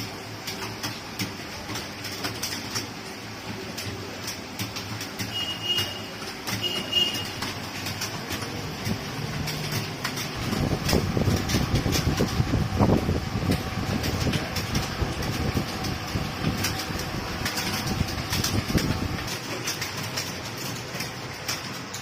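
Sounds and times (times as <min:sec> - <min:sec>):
keyboard typing clicks: 0:00.4 - 0:22.0.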